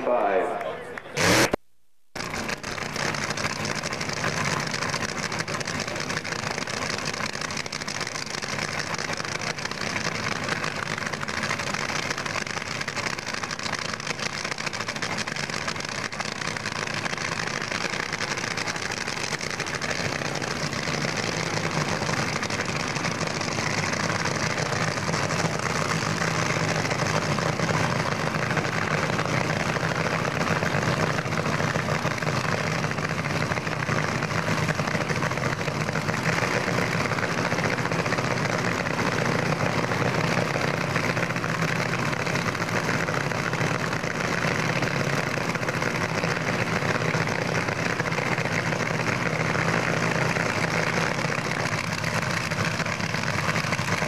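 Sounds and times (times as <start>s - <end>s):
race car engines idling: 2.2s - 54.0s.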